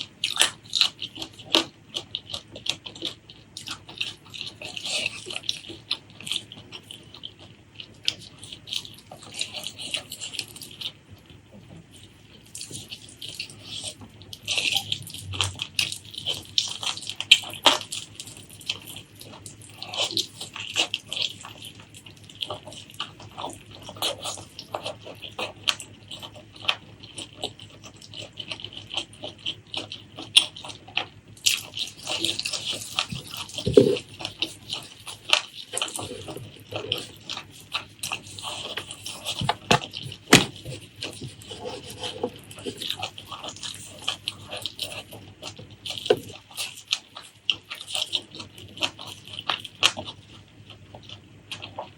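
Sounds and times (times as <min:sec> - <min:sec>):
person chewing with wet smacks: 0:00.0 - 0:51.9.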